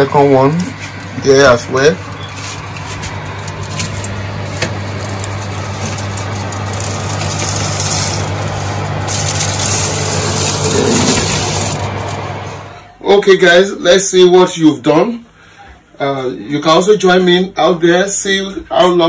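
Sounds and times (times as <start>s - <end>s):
kitchen fan humming and hissing: 0.0s - 19.0s.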